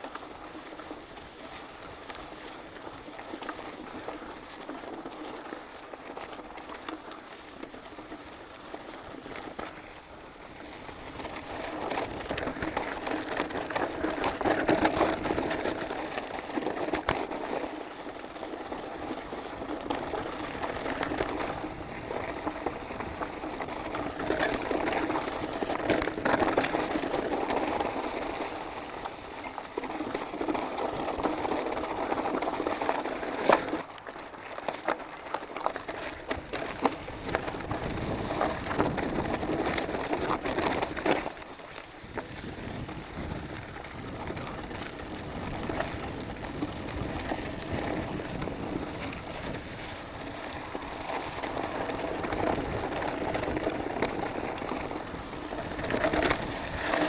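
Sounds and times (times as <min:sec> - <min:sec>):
bike rattling: 0:00.0 - 0:57.0
tyres crunching on gravel: 0:00.0 - 0:57.0.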